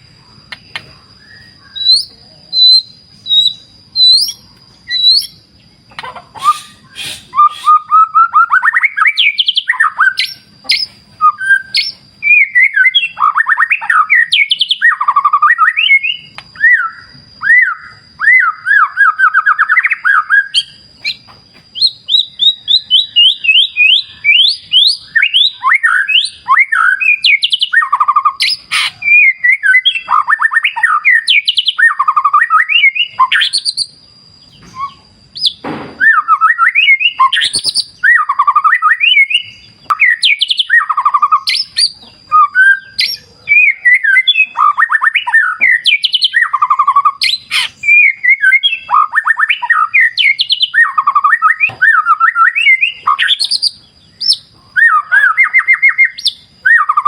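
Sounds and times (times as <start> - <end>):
bird singing trills and chatter: 0.0 - 57.0.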